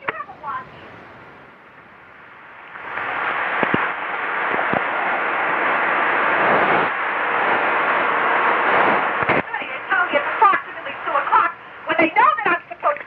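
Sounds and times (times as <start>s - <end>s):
telephone line static hiss: 0.0s - 13.0s.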